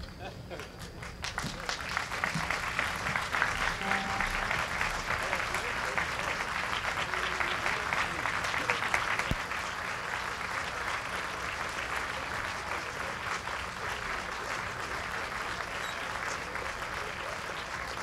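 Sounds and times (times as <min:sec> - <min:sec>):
crowd applauding: 0:00.0 - 0:18.0
voices: 0:00.0 - 0:18.0.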